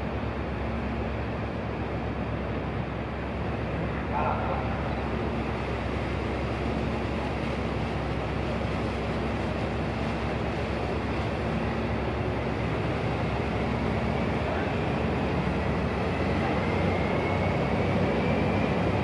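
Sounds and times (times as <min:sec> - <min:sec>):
boat engines low drone: 0:00.0 - 0:19.0
faint engine whine: 0:00.0 - 0:19.0.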